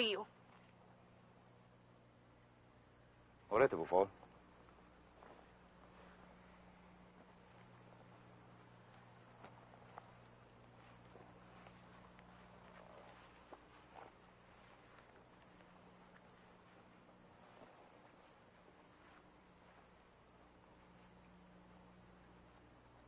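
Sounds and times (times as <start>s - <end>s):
faint high hiss: 0.0s - 23.0s
low hum: 4.1s - 23.0s.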